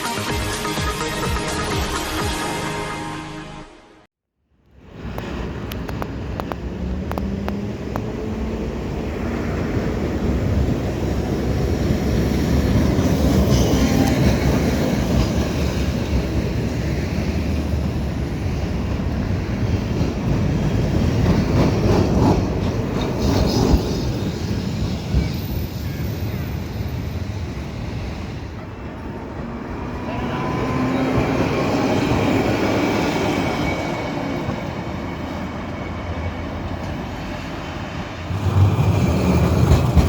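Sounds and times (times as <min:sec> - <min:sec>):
tram wheels and motors rumbling: 0:04.6 - 0:40.0.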